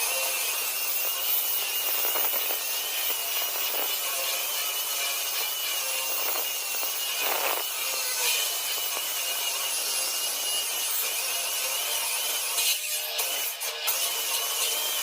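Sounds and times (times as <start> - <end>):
power tool cutting concrete: 0.0 - 15.0.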